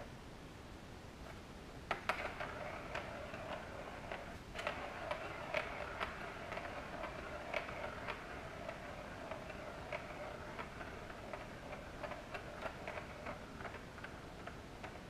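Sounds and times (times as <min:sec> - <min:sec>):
paws tapping plastic track: 0:01.9 - 0:15.0
plastic ball rolling in track: 0:01.9 - 0:15.0.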